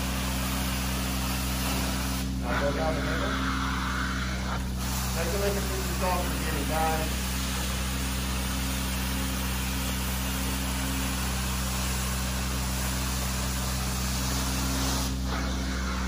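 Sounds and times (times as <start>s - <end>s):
carpet cleaning machine motor drone: 0.0s - 16.0s
suction hiss: 0.0s - 16.0s.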